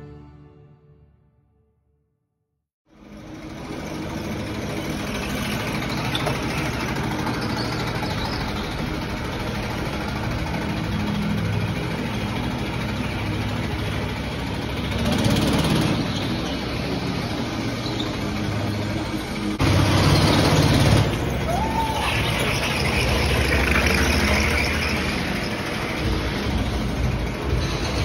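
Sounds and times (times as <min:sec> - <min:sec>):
go-kart engines running: 0:02.9 - 0:28.0.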